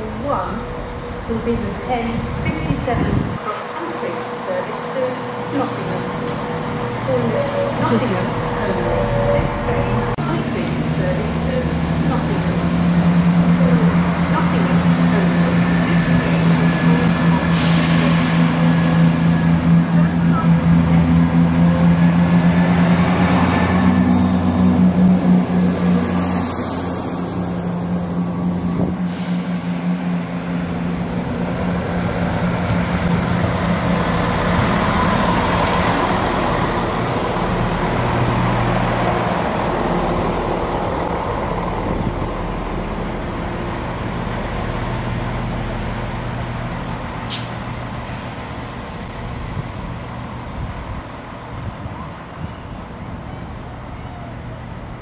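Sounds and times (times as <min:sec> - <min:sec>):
diesel engine hum: 0:00.0 - 0:55.0
train rumbling along track: 0:00.0 - 0:55.0.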